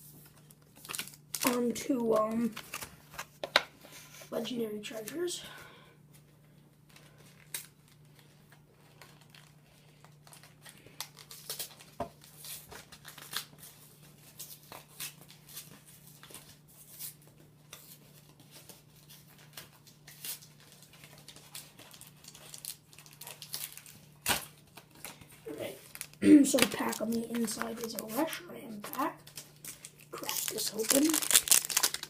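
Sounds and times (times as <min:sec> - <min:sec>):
packaging crinkling and tearing: 0:00.2 - 0:03.7, 0:06.8 - 0:32.0.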